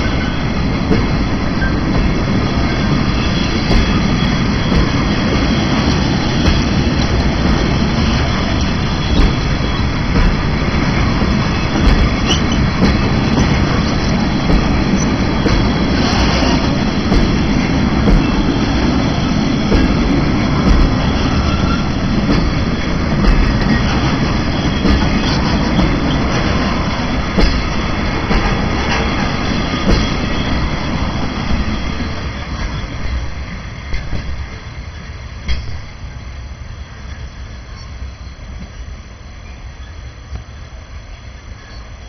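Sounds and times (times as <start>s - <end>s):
wheels clacking over rail joints: 0.0s - 34.7s
steel wheels rumbling on rail: 0.0s - 42.0s.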